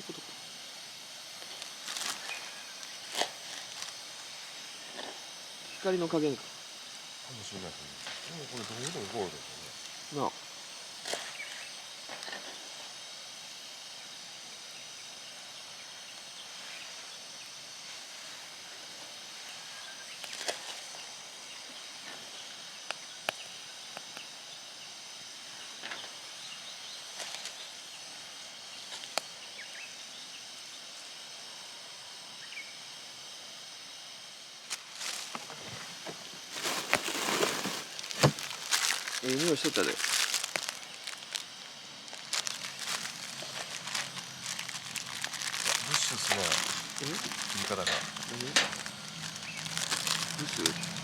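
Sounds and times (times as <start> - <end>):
outdoor background hiss: 0.0 - 51.0.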